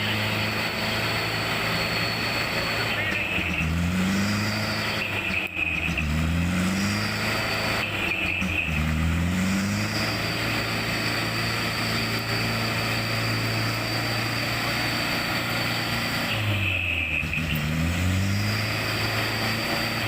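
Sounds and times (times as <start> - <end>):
diesel truck engine under load: 0.0 - 20.0.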